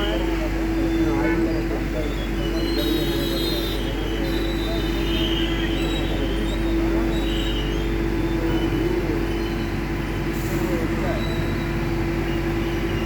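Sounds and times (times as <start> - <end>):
vehicle running rumble: 0.0 - 13.0.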